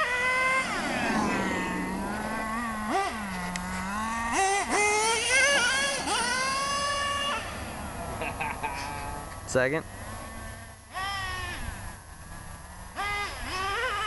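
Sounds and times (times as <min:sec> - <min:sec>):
nitro engine revving: 0:00.0 - 0:14.0.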